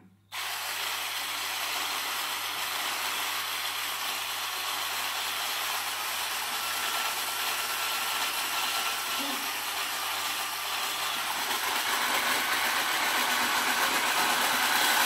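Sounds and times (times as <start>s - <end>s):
hand blender whisking: 0.3s - 15.0s.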